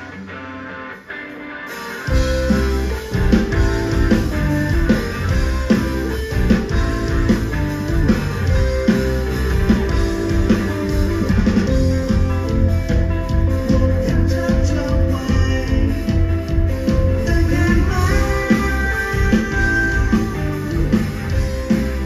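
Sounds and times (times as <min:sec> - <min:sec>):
bass guitar: 0:00.0 - 0:22.0
electric guitars: 0:00.0 - 0:22.0
drum kit beat: 0:01.6 - 0:22.0.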